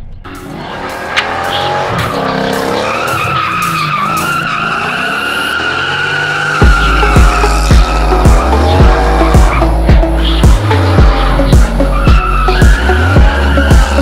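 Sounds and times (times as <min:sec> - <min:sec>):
car engine revving: 0:00.3 - 0:14.0
tyres squealing: 0:00.6 - 0:14.0.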